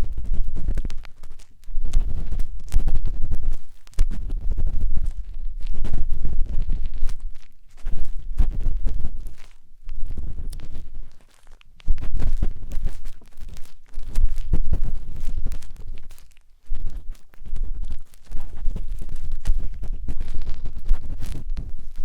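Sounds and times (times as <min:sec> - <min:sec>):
matchstick scratching on microphone: 0:00.0 - 0:22.0.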